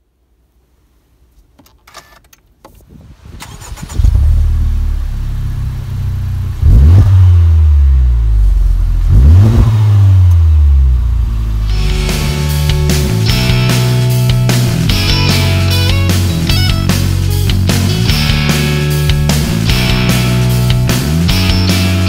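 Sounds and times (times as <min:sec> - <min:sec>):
car engine starting and idling: 0:01.0 - 0:22.0
car engine revving: 0:03.4 - 0:22.0.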